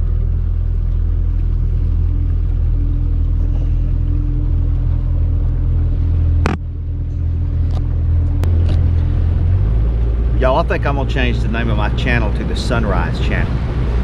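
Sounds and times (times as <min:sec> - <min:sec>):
boat motor rumbling: 0:00.0 - 0:14.0
faint hum: 0:00.0 - 0:14.0.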